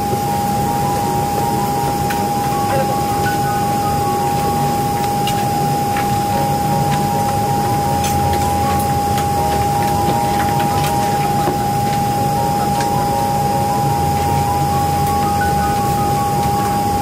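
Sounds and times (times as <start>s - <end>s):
loud even whine: 0.0s - 17.0s
low cabin hum: 0.0s - 17.0s.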